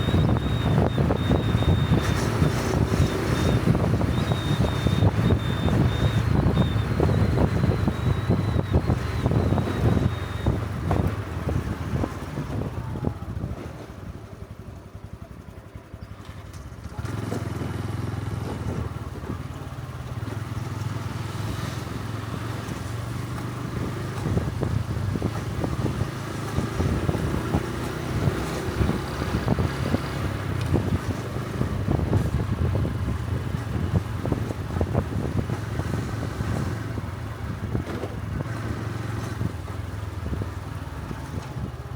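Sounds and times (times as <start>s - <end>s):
wind buffeting microphone: 0.0s - 15.1s, 18.4s - 41.9s
motorcycle engine running: 0.0s - 41.9s.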